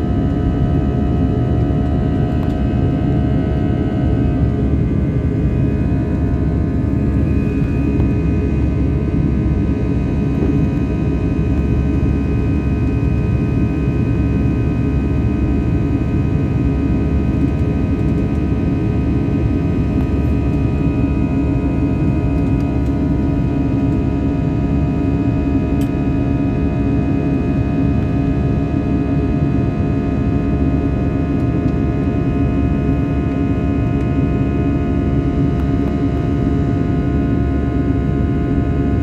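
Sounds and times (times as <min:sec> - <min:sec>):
aeroplane engines rumbling: 0:00.0 - 0:39.0.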